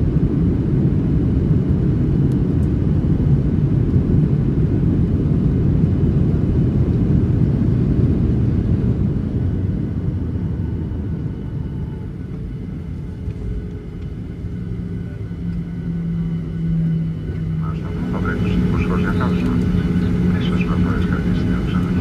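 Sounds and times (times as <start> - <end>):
jet engines in reverse thrust: 0.0 - 22.0
steady low hum: 0.0 - 22.0.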